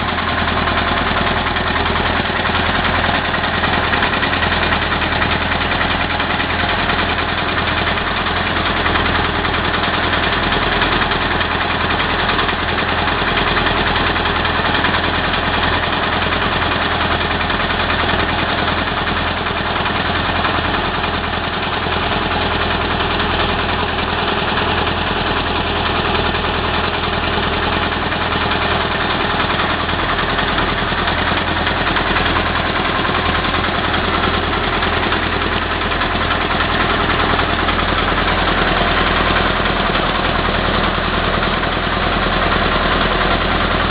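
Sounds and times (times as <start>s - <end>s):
drilling rig engine running: 0.0s - 43.9s.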